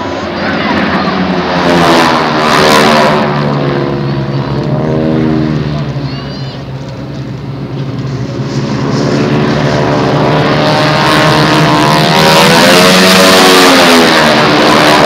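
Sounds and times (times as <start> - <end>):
propeller planes droning past: 0.0 - 15.0.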